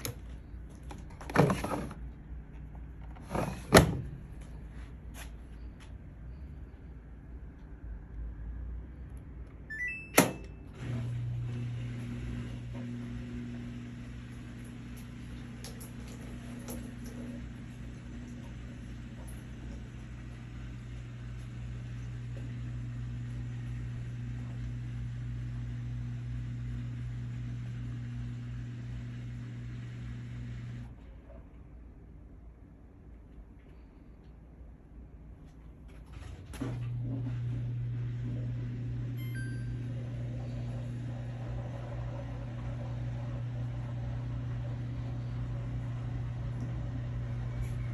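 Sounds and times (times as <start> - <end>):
washing machine running: 0.0 - 4.9, 6.2 - 31.7, 35.9 - 47.9.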